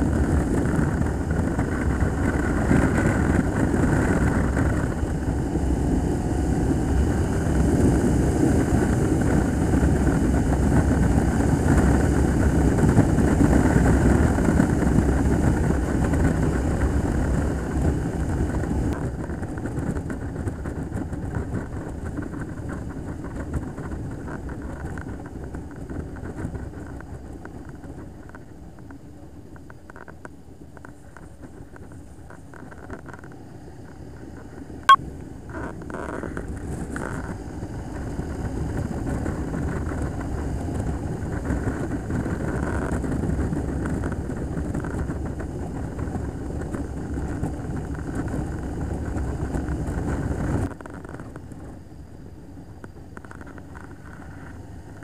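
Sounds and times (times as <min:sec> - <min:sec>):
wind noise: 0:00.0 - 0:55.0.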